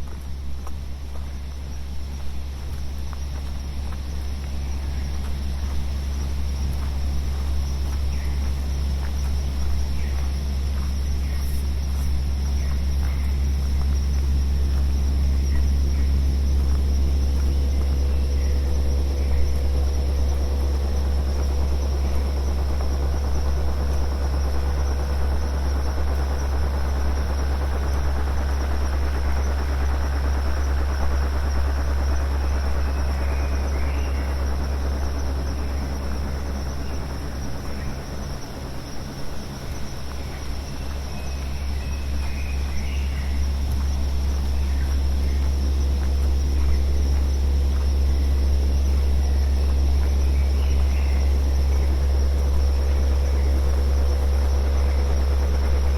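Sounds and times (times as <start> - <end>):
synthesized noise rumble and hiss: 0.0 - 55.9.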